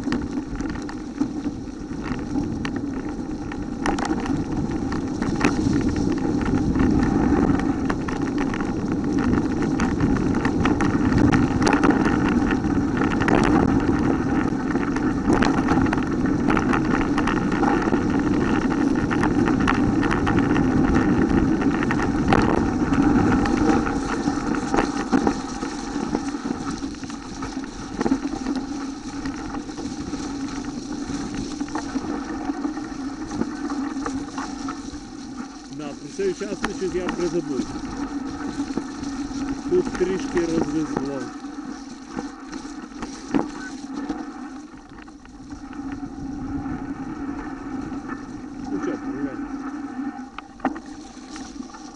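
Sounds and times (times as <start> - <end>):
tyres rolling over dry leaves: 0.0 - 51.9
wind noise on microphone: 0.0 - 51.9.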